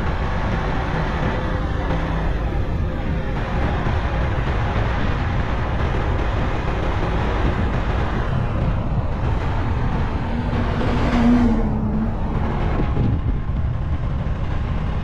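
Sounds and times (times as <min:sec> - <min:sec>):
vehicle road noise rumble: 0:00.0 - 0:15.0.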